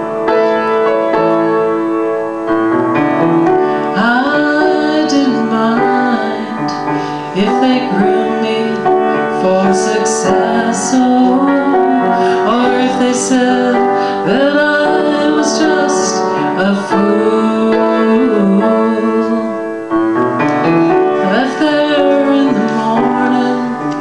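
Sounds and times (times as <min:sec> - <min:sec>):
piano accompaniment: 0:00.0 - 0:24.0
woman singing: 0:03.6 - 0:19.9, 0:20.9 - 0:24.0.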